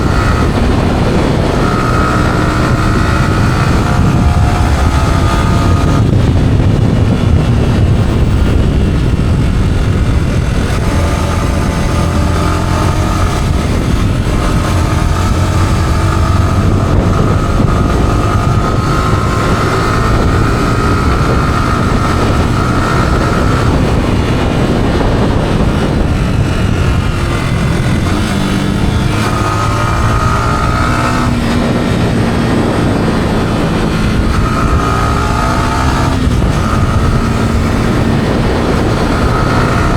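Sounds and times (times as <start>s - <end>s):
motorcycle engine revving: 0.0s - 39.9s
wind rushing: 0.0s - 39.9s.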